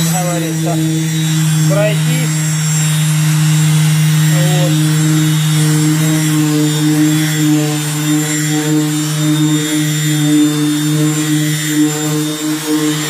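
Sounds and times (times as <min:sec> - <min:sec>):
orbital sander running: 0:00.0 - 0:13.0.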